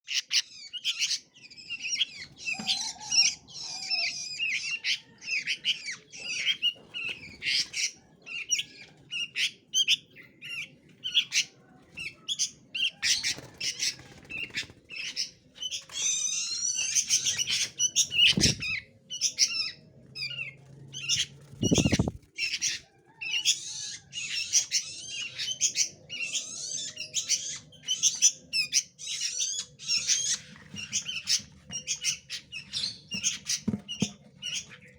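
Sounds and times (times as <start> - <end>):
small birds chirping and squawking: 0.0 - 34.9.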